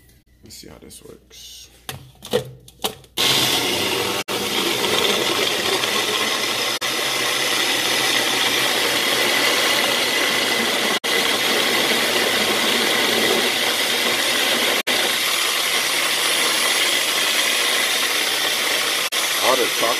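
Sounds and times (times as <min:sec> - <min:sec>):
kitchen blender whirring: 0:03.2 - 0:19.9.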